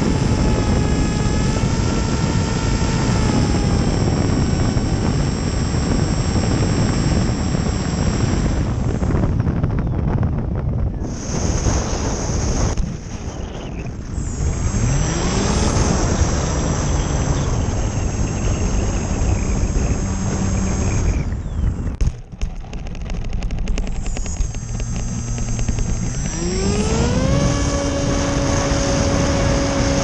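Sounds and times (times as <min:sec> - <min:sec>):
electric motor whine: 0:00.0 - 0:30.0
wind rushing past microphone: 0:00.0 - 0:30.0.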